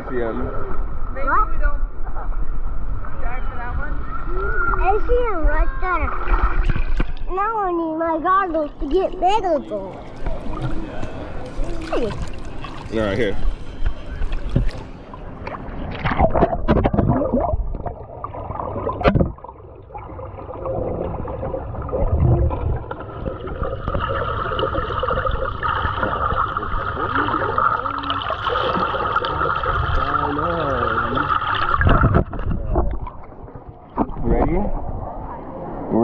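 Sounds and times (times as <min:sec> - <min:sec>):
water gurgling underwater: 0:04.0 - 0:35.9.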